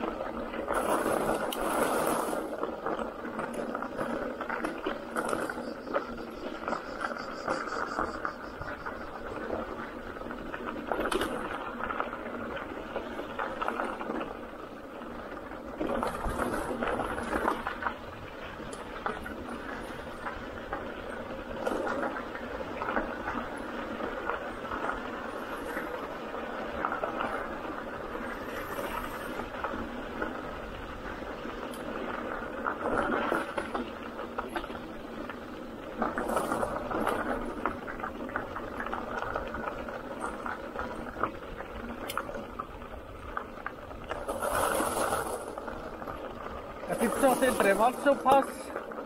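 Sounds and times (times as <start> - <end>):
bicycle rolling over gravel: 0.0 - 49.0.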